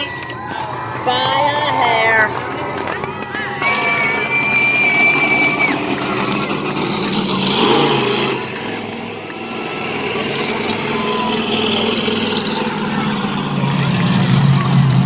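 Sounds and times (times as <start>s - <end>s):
monster truck engines rumbling: 0.0s - 15.0s.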